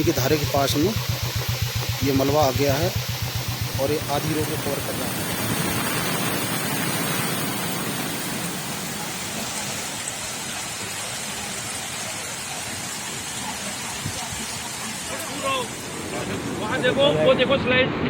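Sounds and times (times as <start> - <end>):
heavy rain falling: 0.0 - 17.8.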